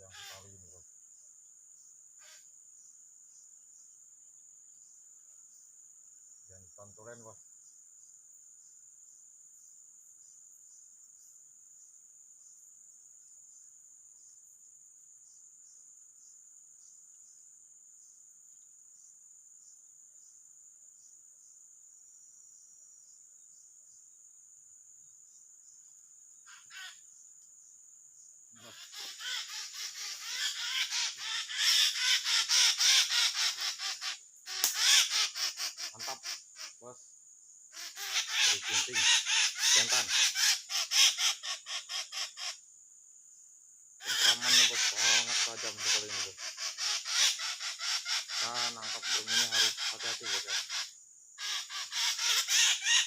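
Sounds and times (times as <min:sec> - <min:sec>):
crickets trilling: 0:00.0 - 0:53.0.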